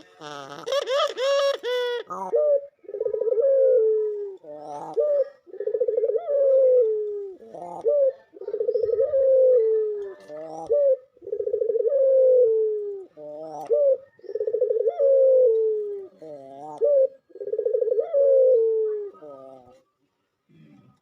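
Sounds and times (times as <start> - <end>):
dove cooing: 0.0 - 19.8.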